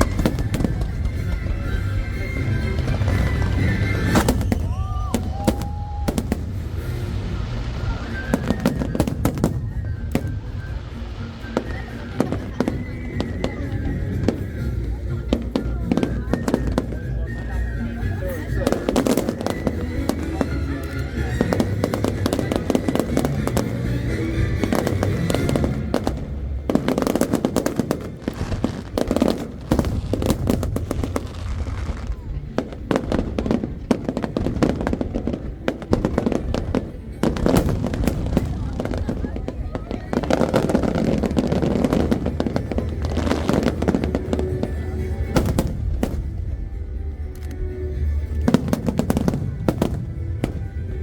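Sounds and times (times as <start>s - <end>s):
fireworks bangs and cracks: 0.0s - 51.0s
show music: 0.0s - 51.0s.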